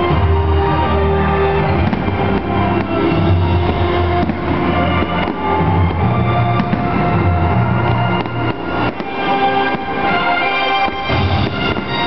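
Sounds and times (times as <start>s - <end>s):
loud music: 0.0s - 12.0s
firework shells bursting: 1.6s - 12.0s.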